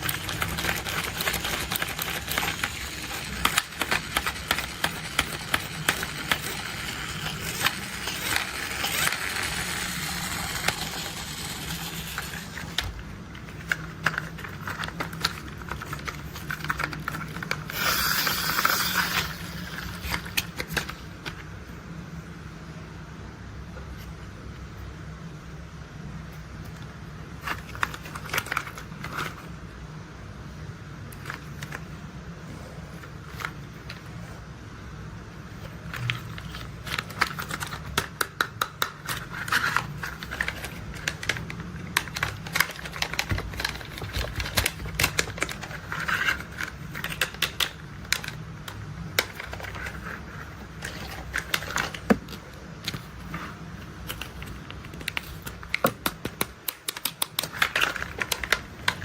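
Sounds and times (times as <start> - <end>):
plastic toys clicking and clattering: 0.0 - 21.5, 27.4 - 29.5, 31.1 - 31.9, 35.6 - 59.0
low steady hum: 0.0 - 59.0.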